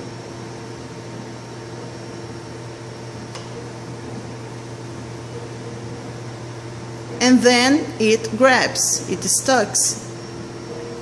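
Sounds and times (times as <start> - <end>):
machine hum with tones: 0.0 - 11.0.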